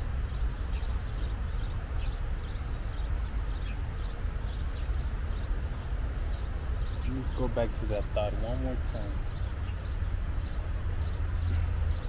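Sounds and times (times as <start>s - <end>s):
wind rumble on microphone: 0.0s - 12.0s
small bird chirping: 0.2s - 12.0s.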